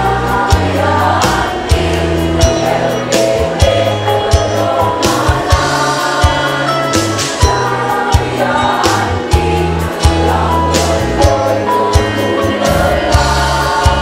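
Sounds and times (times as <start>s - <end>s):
low bass line: 0.0s - 14.0s
steady drum beat: 0.0s - 14.0s
women's choir singing: 0.0s - 14.0s.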